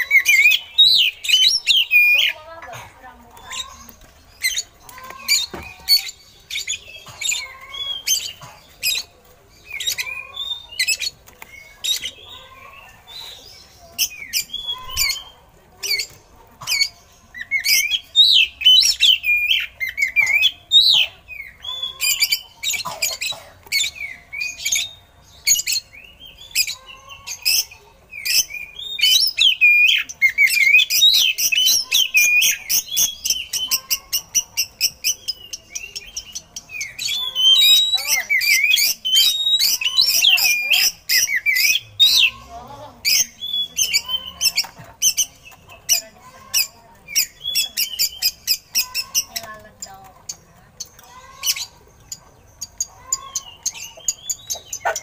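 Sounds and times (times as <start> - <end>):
magpie-robin singing: 0.0 - 55.0.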